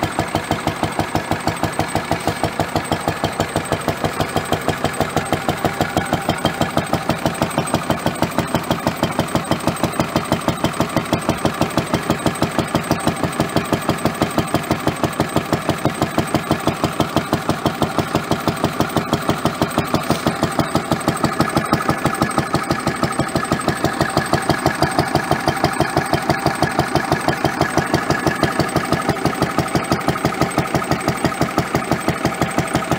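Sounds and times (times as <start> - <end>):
stationary engine running: 0.0 - 32.9.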